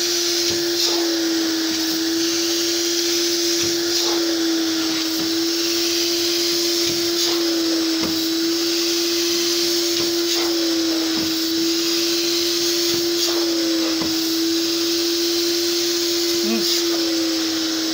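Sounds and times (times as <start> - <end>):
vacuum motor whining: 0.0 - 17.9.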